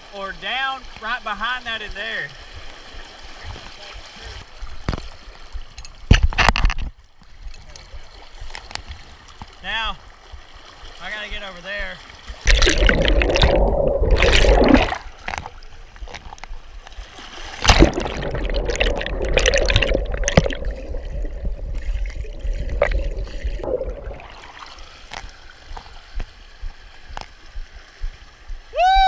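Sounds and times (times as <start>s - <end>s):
creek current churning and bubbling: 0.0s - 28.8s.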